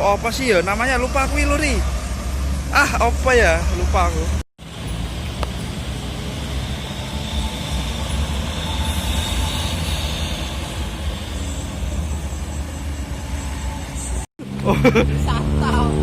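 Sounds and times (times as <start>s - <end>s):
road traffic rumble: 0.0s - 16.0s
tyre and road noise: 0.0s - 16.0s.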